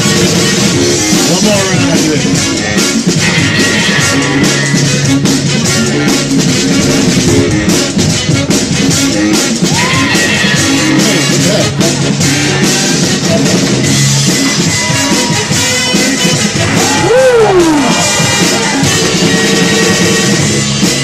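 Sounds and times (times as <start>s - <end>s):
loud music with drum beat: 0.0s - 21.0s.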